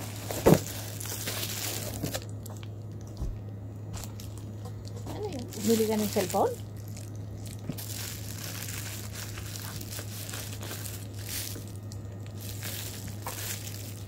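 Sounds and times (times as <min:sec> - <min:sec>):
plastic packaging crinkling: 0:00.0 - 0:14.0
steady low hum: 0:00.0 - 0:14.0.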